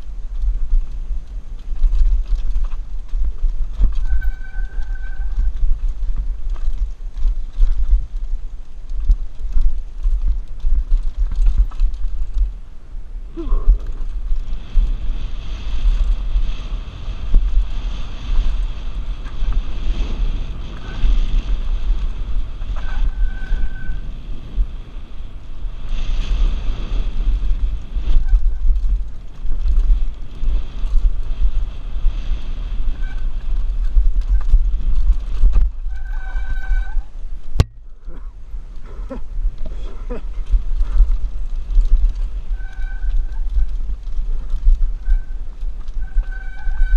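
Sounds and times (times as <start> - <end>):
mountain bike rattling on rough trail: 0.0 - 46.9
wind buffeting microphone: 0.0 - 46.9.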